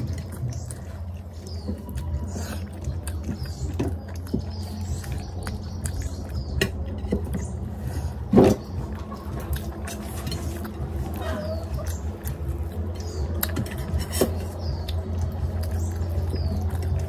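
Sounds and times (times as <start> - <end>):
chewing and mouth clicks: 0.0 - 17.0
steady low hum: 0.0 - 17.0.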